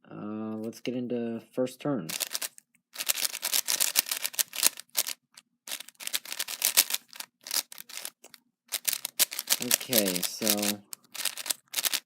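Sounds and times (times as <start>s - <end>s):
puzzle cube plastic clicks: 2.1s - 12.0s.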